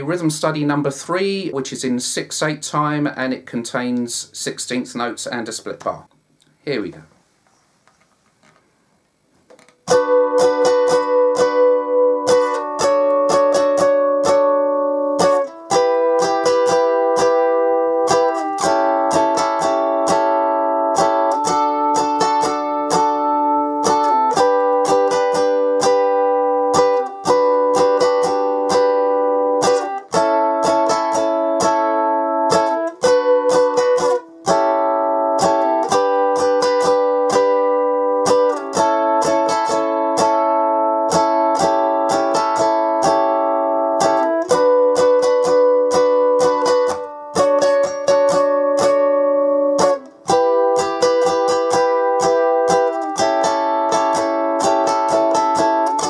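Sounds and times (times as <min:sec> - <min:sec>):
ukulele strumming: 0:09.5 - 0:56.0.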